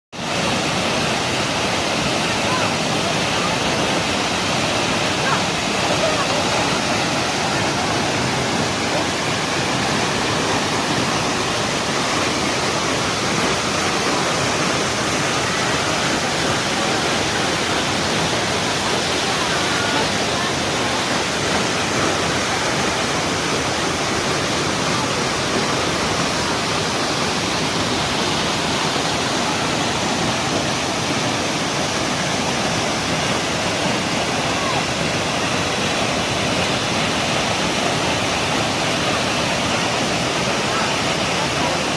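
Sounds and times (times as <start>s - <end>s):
waterfall pouring: 0.2s - 41.9s.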